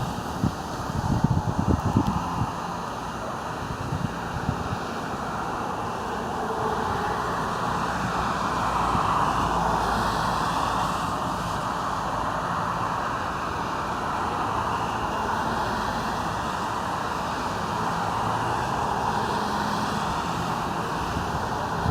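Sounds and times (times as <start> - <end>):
steady background noise: 0.0 - 21.9.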